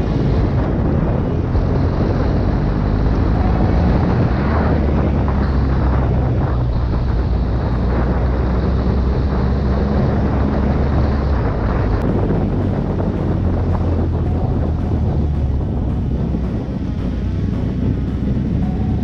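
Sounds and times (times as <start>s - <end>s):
engine running steadily: 0.0s - 19.0s
wind on microphone: 0.0s - 19.0s.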